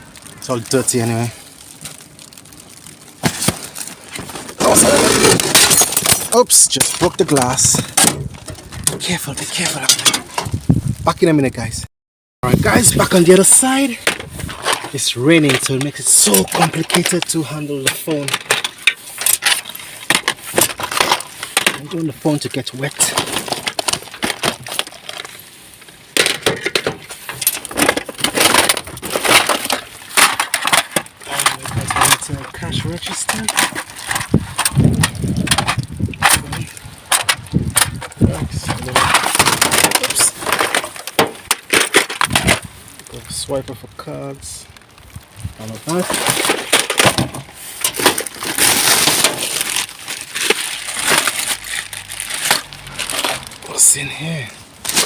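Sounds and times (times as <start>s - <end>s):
rustling and crunching: 0.0s - 55.0s
rummaging through rubbish in bin: 0.4s - 10.6s, 12.4s - 43.4s, 45.4s - 55.0s.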